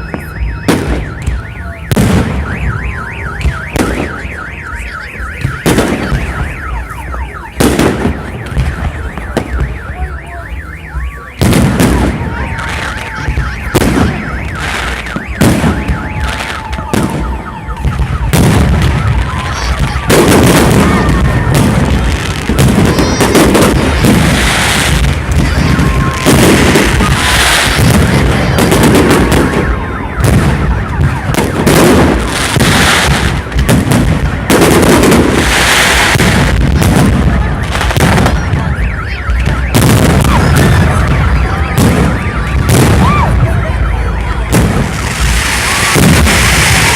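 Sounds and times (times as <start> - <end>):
fireworks bursts and crackling bangs: 0.0 - 46.9.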